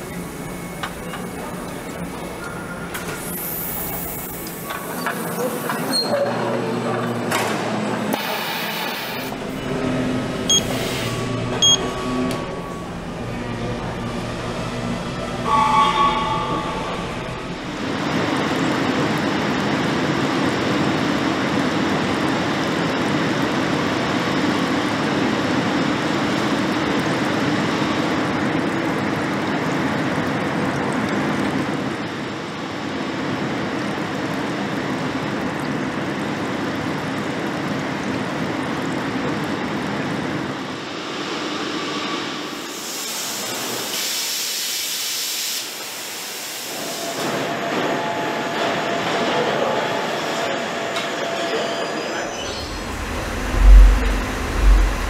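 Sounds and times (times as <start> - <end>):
rumbling production line machinery: 0.0 - 51.1, 52.0 - 55.0.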